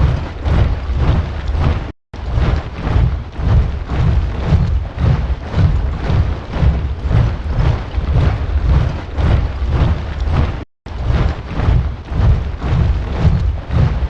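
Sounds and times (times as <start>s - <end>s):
soldiers marching in step: 0.0s - 14.0s.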